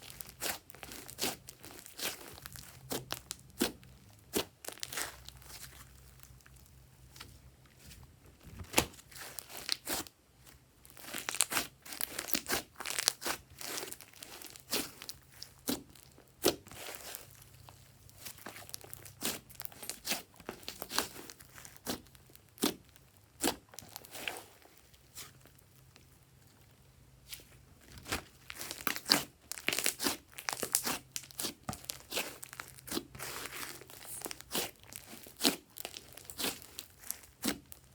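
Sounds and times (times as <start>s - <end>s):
slime kneaded by hand: 0.0s - 37.9s.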